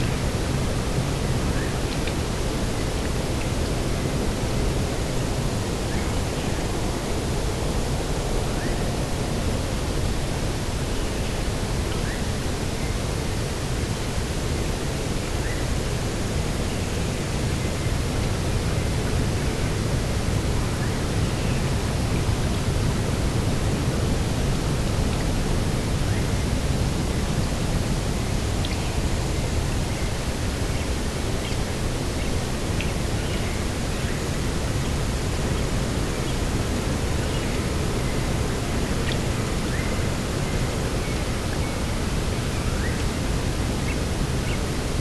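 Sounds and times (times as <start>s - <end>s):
coastal wind and sea rushing: 0.0s - 45.0s.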